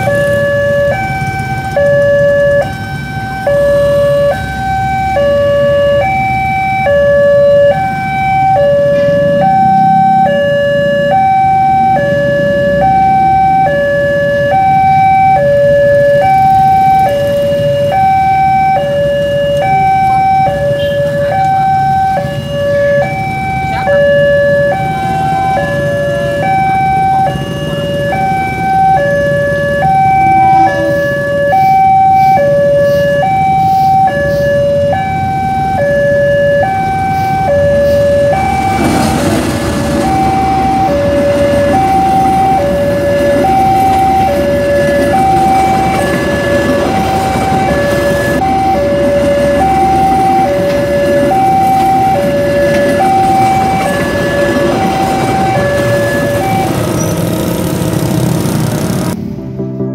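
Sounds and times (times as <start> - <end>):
level crossing warning signal: 0.0 - 59.2
motorcycles idling: 0.0 - 59.2.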